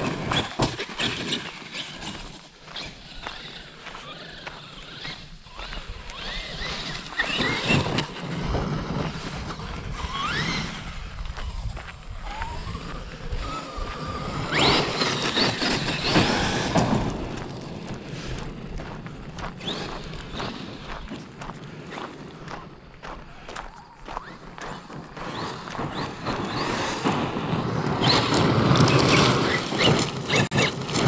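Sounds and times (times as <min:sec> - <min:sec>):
rc car electric motor whining: 0:00.0 - 0:17.5, 0:19.6 - 0:20.9, 0:24.2 - 0:31.0
tyres scrabbling on gravel: 0:00.0 - 0:31.0.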